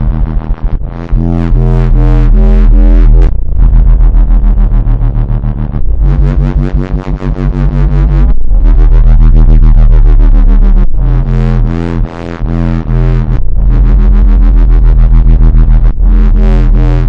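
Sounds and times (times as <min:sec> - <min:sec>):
buzzy pulsing synthesizer drone: 0:00.0 - 0:17.0.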